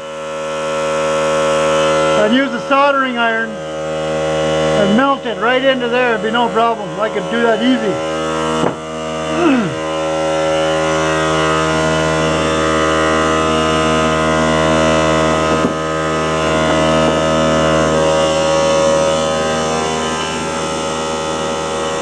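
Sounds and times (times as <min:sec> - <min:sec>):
air compressor motor hum: 0:00.0 - 0:22.0.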